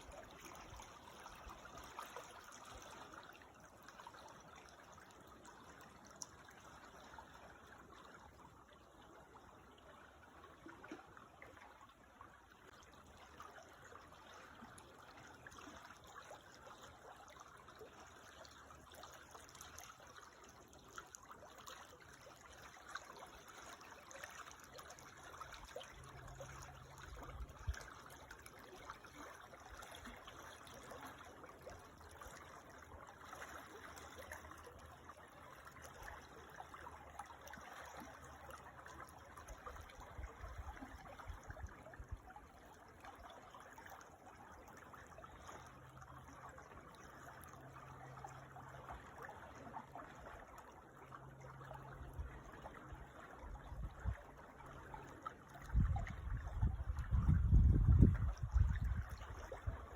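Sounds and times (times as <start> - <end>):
creek trickling and babbling: 0.0 - 59.9.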